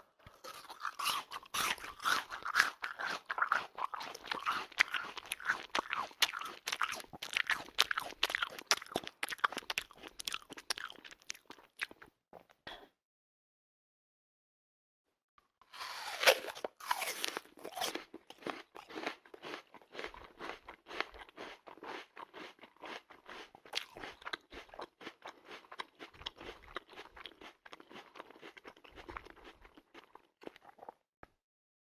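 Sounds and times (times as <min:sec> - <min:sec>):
apple bite crunch: 0:00.2 - 0:12.1, 0:15.7 - 0:31.0
crunchy chewing: 0:00.2 - 0:12.1, 0:15.7 - 0:31.0.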